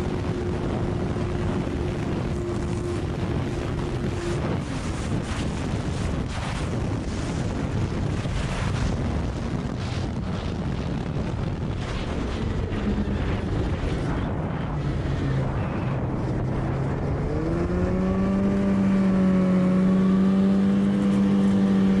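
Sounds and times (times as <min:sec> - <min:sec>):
snowmobile engine: 0:00.0 - 0:22.0
wind on microphone: 0:00.0 - 0:22.0.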